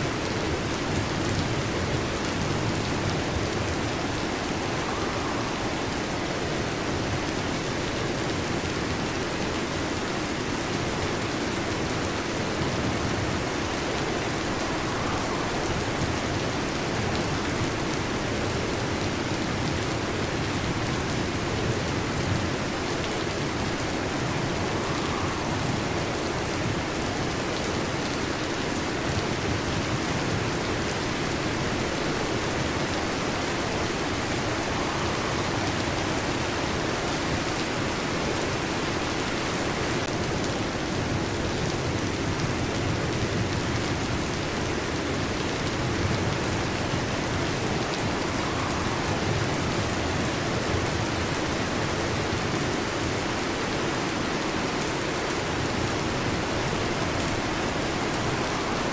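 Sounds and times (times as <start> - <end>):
heavy rain on a metal roof: 0.0 - 58.9.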